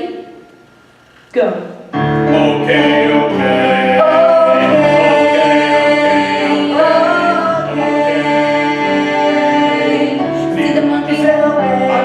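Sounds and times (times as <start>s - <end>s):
voices singing in harmony: 0.0s - 0.4s, 2.0s - 12.0s.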